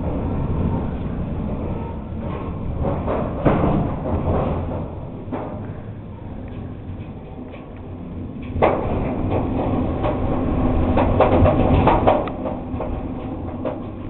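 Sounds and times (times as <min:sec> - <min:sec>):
storm wind rumbling: 0:00.0 - 0:14.0
knocks and clatters: 0:02.2 - 0:14.0.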